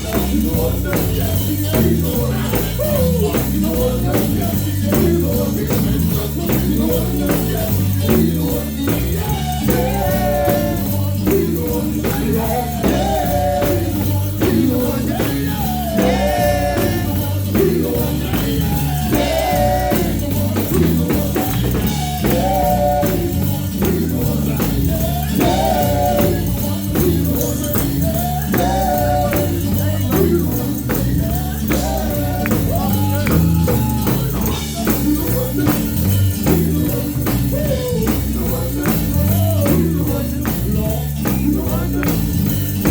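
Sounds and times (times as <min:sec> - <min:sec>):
live gospel band music: 0:00.0 - 0:42.9
voices singing: 0:00.0 - 0:42.9.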